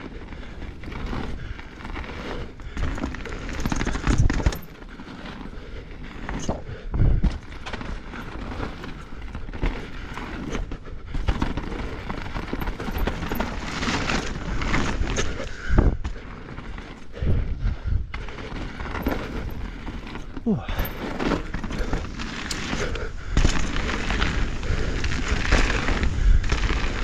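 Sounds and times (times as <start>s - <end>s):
bike chain rattling: 0.0s - 27.0s
bike tyres rolling on dirt: 0.0s - 27.0s
bike thumping over bumps: 0.1s - 27.0s.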